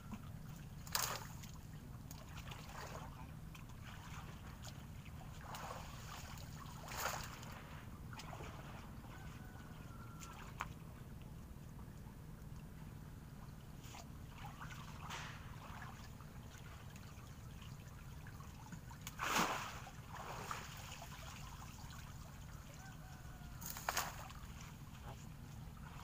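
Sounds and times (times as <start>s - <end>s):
steady low hum: 0.0s - 26.0s
water splashing and sloshing: 0.0s - 26.0s.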